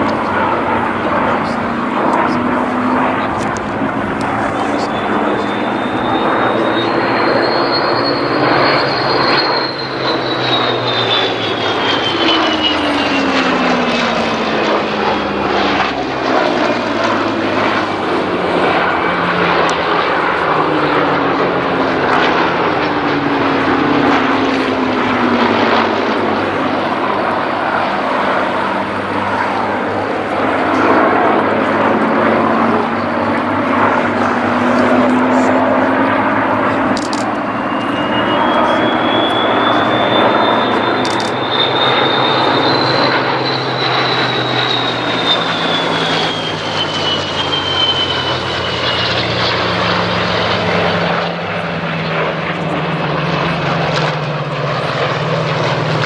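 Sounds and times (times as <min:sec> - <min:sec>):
propeller aircraft flying past: 0:00.0 - 0:56.0.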